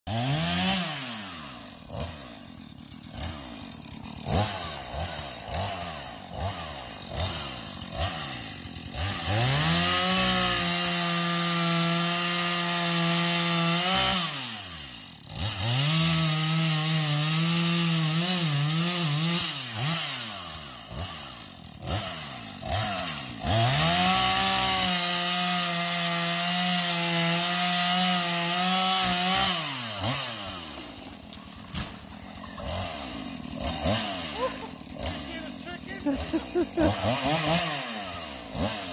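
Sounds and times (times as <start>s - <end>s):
chainsaw idling and cutting: 0.0s - 38.9s.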